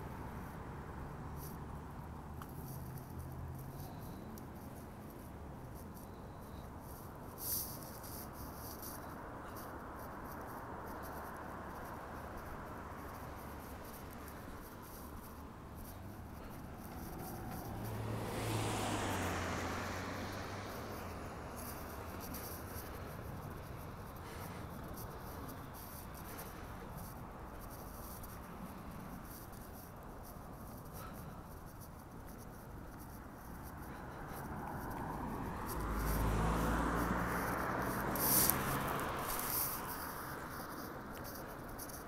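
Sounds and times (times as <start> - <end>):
car passing: 0.0 - 42.0
distant road traffic hum: 0.0 - 42.0.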